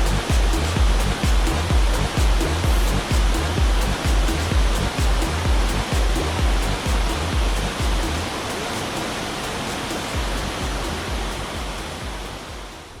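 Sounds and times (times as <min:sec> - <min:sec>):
music with deep beat: 0:00.0 - 0:13.0
waterfall rushing: 0:00.0 - 0:13.0.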